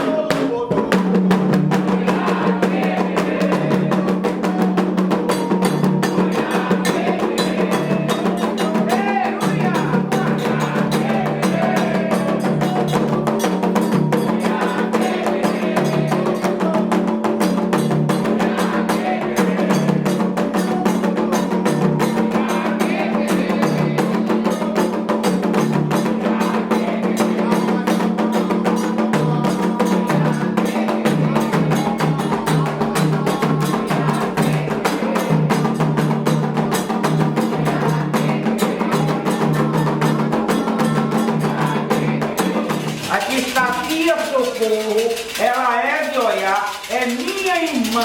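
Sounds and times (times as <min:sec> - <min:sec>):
hand drums playing: 0:00.0 - 0:48.0.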